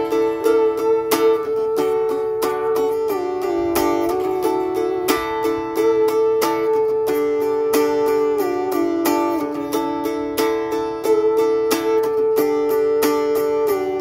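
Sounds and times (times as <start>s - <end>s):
mountain dulcimer strumming: 0.0s - 14.0s.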